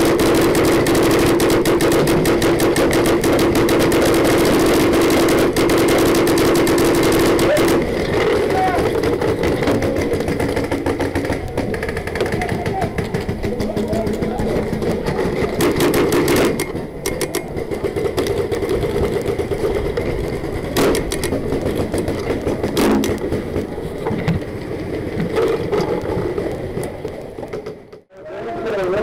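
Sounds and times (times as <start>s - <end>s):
paintball markers firing: 0.0s - 23.7s.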